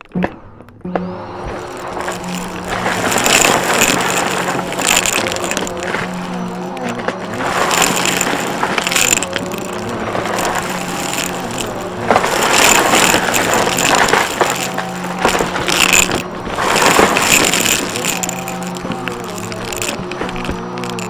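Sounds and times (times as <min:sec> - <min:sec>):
vacuum cleaner running: 0:00.8 - 0:21.0.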